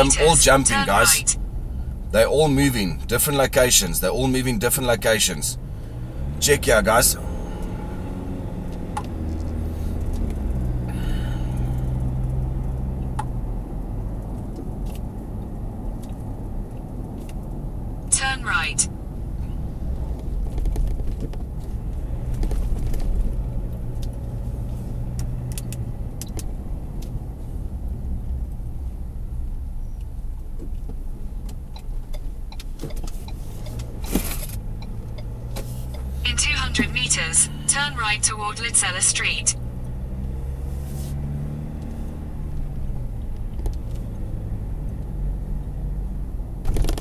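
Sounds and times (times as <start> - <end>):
car engine: 0.0 - 47.0
road noise: 0.0 - 47.0.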